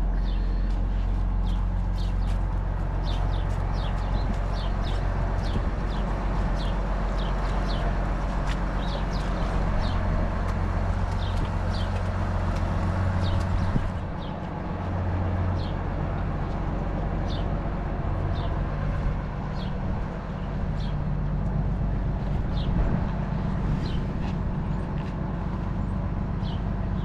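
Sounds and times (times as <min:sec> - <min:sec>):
elevator mechanical hum: 0:00.0 - 0:27.0.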